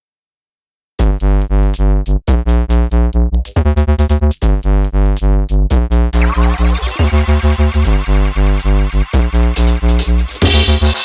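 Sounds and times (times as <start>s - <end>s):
electronic music with pulsing bass: 1.0s - 11.0s.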